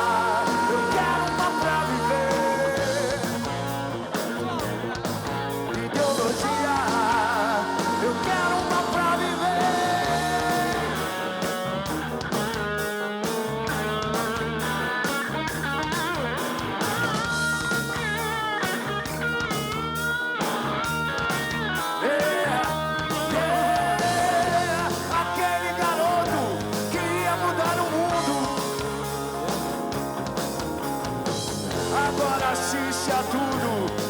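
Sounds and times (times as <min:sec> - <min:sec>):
bass guitar: 0:00.0 - 0:34.0
electric guitar lead: 0:00.0 - 0:34.0
steady drum beat: 0:00.0 - 0:34.0.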